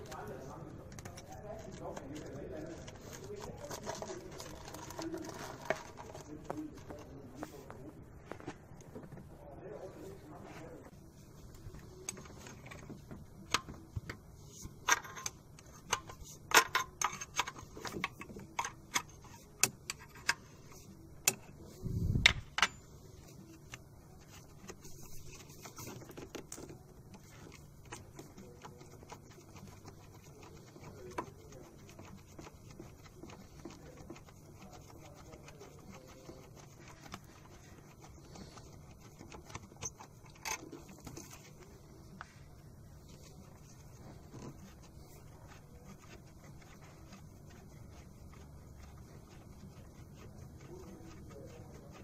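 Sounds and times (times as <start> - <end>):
handling sounds: 0.0 - 9.4, 10.0 - 51.6.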